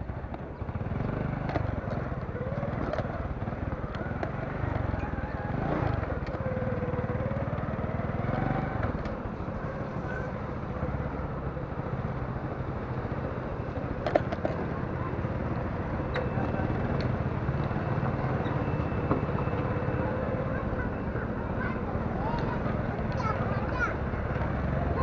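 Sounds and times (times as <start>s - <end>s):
small motorcycle engine running: 0.0s - 25.0s.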